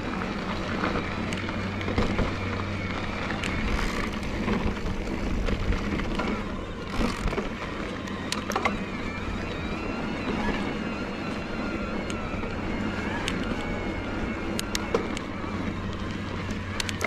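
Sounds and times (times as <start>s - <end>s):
bike clicks and rattles: 0.0s - 17.0s
electric bike motor whirring: 0.0s - 17.0s.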